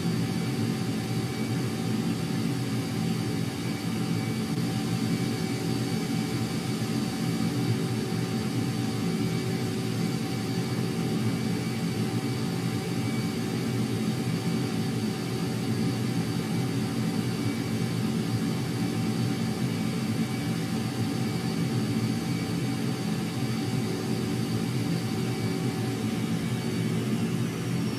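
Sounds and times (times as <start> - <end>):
jet engines running: 0.0 - 27.9.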